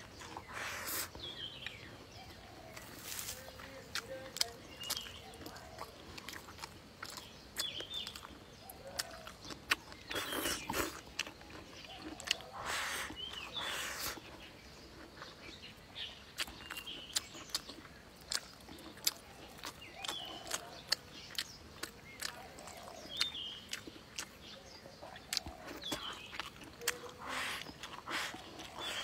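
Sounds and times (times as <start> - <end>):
bird chirps: 0.0 - 29.0
person chewing food: 0.0 - 29.0.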